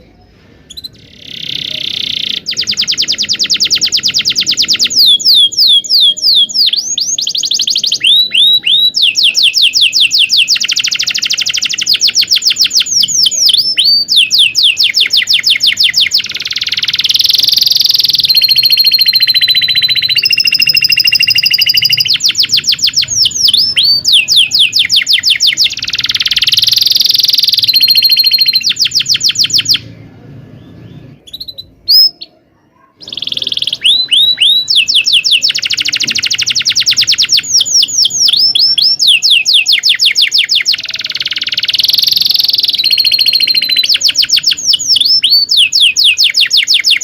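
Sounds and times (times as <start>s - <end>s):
canary singing: 0.0s - 47.0s.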